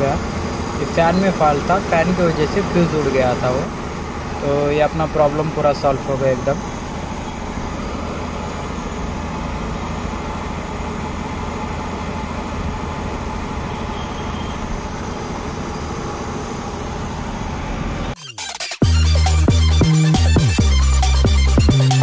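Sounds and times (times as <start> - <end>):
radiator cooling fan running: 0.0 - 18.0.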